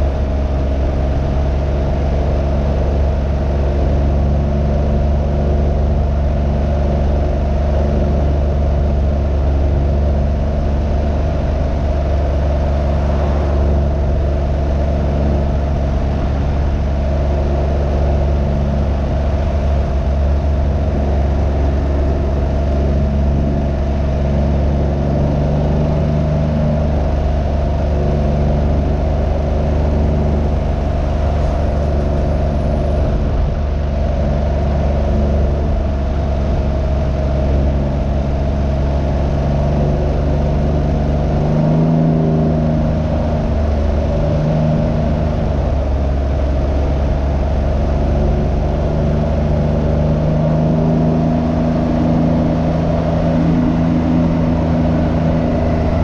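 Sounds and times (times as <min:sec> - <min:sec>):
three-cylinder engine running: 0:00.0 - 0:56.0
wind noise on microphone: 0:00.0 - 0:56.0.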